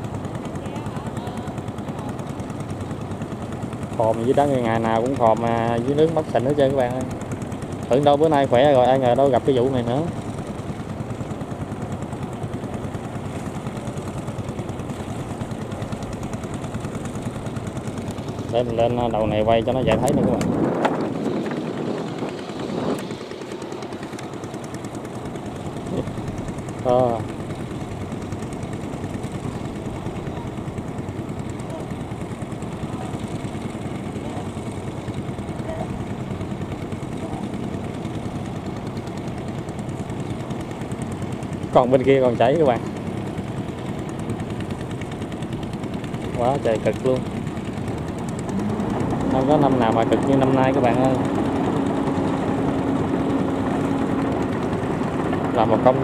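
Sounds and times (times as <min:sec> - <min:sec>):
engine running steadily: 0:00.0 - 0:56.0
water rushing: 0:00.0 - 0:56.0.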